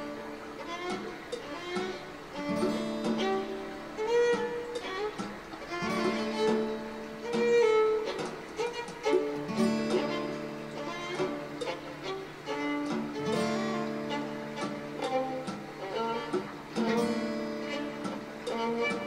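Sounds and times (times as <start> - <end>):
bowed string melody: 0.0 - 19.0
plucked string notes: 0.0 - 19.0.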